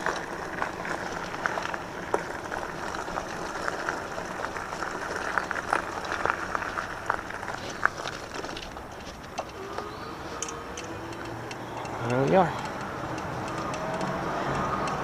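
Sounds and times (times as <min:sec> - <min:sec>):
electric bike riding rush: 0:00.0 - 0:15.0.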